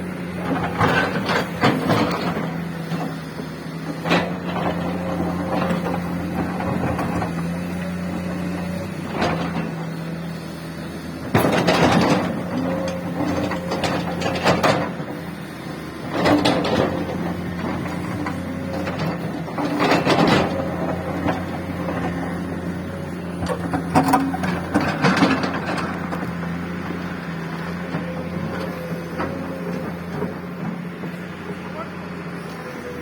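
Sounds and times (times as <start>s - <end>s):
construction machinery engine running: 0.0s - 33.0s.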